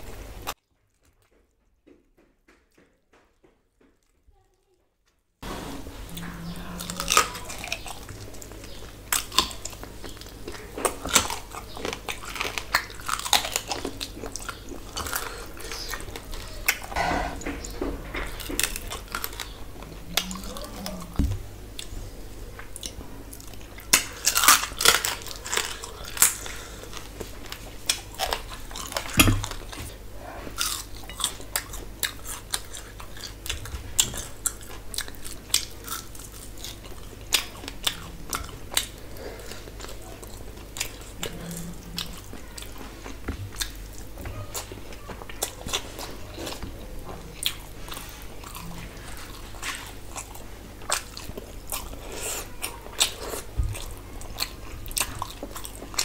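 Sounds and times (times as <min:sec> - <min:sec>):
person chewing food: 0:00.0 - 0:04.5, 0:05.4 - 0:56.0.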